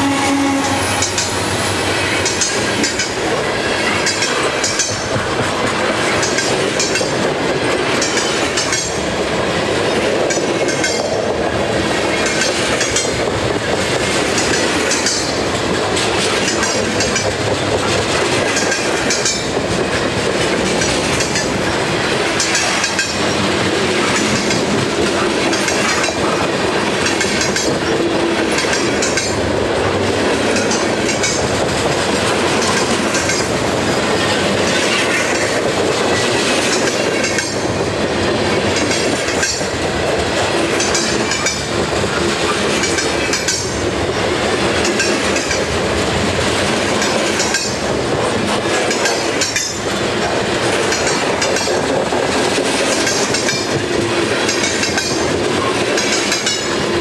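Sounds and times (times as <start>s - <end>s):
train wheels rumbling on rail: 0.0s - 57.0s
wheels clicking over track: 2.2s - 57.0s.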